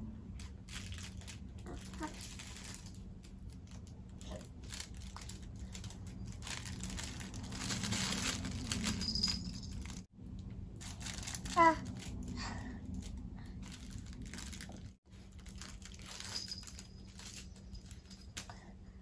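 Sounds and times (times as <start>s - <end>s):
crinkle toy rustling: 0.3s - 10.1s, 10.7s - 18.5s.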